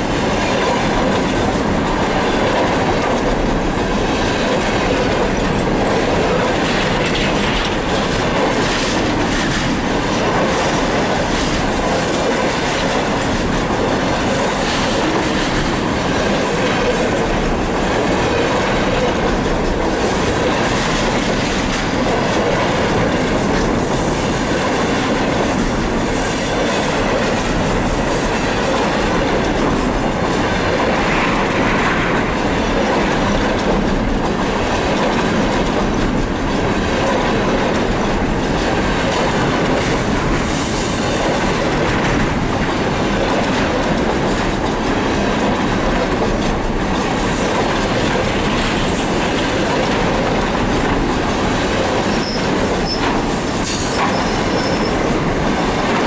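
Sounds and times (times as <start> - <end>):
train wheels running on rails: 0.0 - 56.0.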